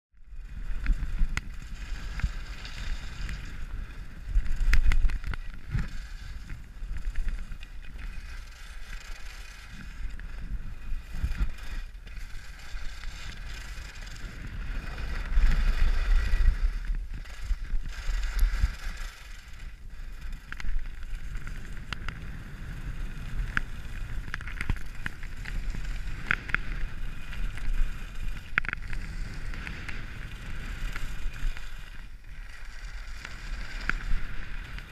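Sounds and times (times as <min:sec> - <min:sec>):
wind rumbling on microphone: 0:00.1 - 0:34.9
skis scraping over snow: 0:00.4 - 0:34.9.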